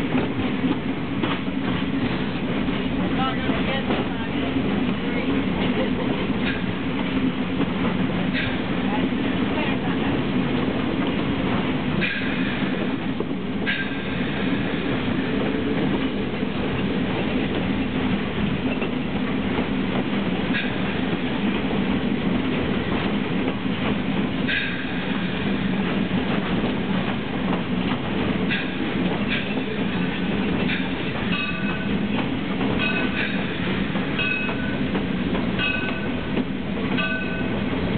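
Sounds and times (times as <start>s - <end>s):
steam locomotive rumble: 0.0s - 37.9s.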